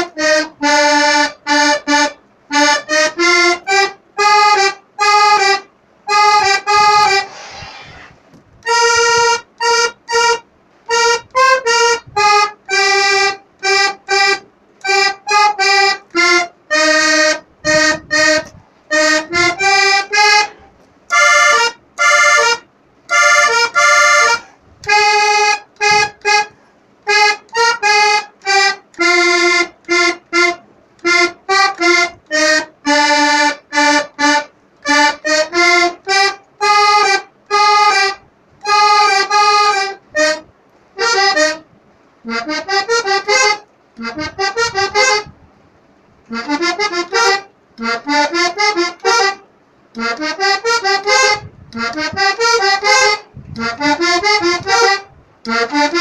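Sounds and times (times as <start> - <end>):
solo accordion: 0.0 - 56.0.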